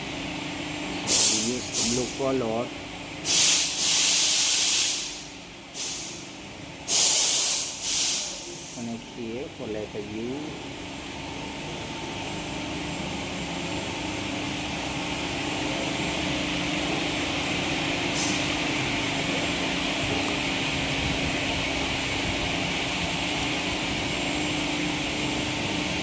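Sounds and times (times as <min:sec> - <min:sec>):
machinery hum and hiss: 0:00.0 - 0:26.0.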